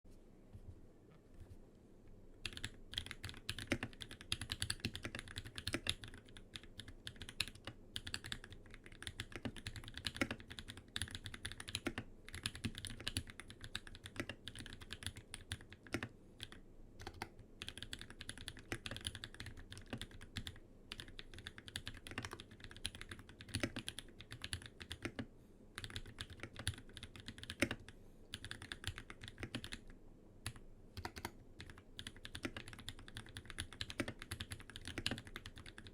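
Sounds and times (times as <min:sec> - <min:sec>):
mechanical keyboard typing: 0:02.4 - 0:35.9.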